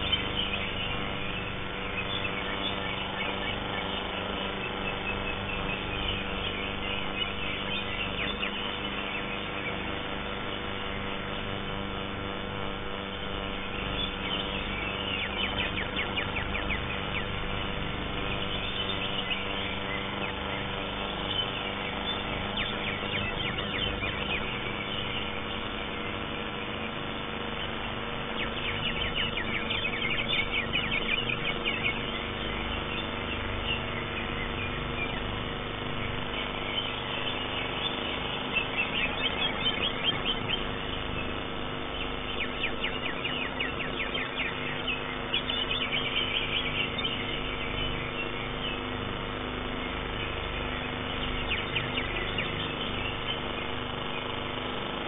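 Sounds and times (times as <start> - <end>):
bird chattering song: 0.0 - 11.6, 12.7 - 55.0
steady background hum: 0.0 - 55.0.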